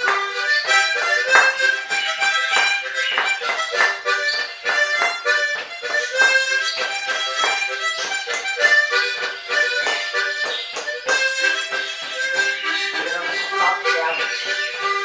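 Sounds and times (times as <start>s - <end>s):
harmonica playing lively tune: 0.0s - 15.0s.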